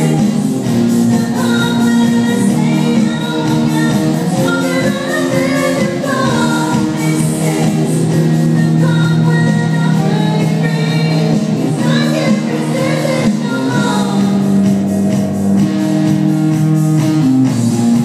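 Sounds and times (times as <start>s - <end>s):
several voices singing: 0.0s - 14.8s
band playing low sustained notes: 0.0s - 18.0s.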